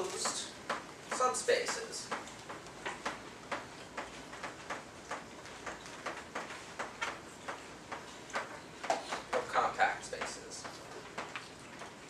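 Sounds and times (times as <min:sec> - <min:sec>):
chalk tapping on blackboard: 0:00.1 - 0:11.5.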